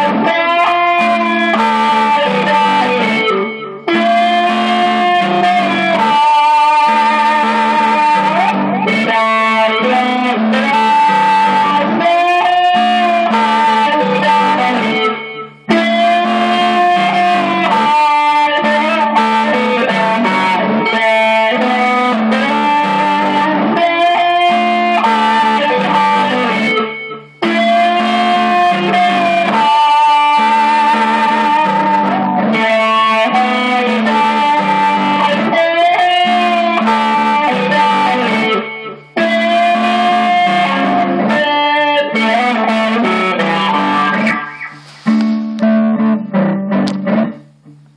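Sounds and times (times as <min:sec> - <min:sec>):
electric guitar melody: 0:00.0 - 0:47.9.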